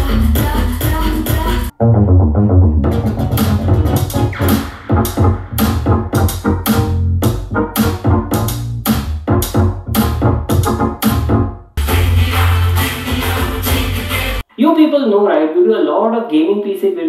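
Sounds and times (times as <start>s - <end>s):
electronic music with heavy bass: 0.0s - 14.4s.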